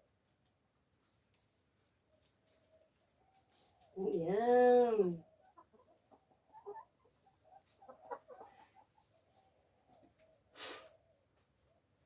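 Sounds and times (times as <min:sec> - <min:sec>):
chickens clucking softly: 0:00.0 - 0:12.0.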